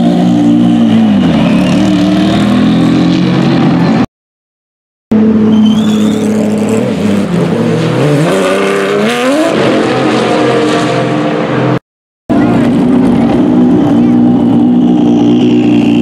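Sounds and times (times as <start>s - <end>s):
race car engines running: 0.0s - 4.0s, 5.2s - 16.0s.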